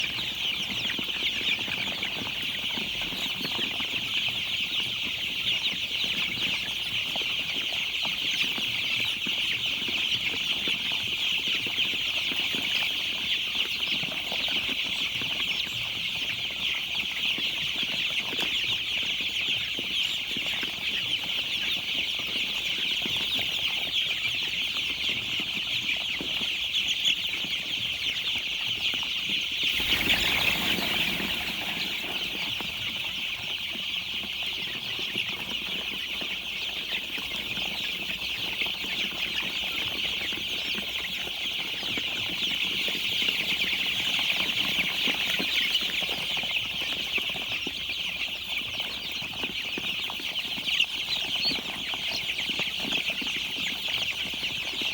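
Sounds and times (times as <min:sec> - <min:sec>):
baby chicks peeping: 0:00.0 - 0:54.9.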